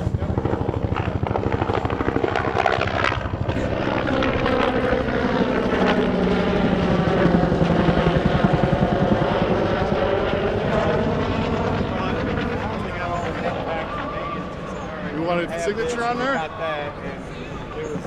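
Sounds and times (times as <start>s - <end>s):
helicopter flying past: 0.0s - 18.0s.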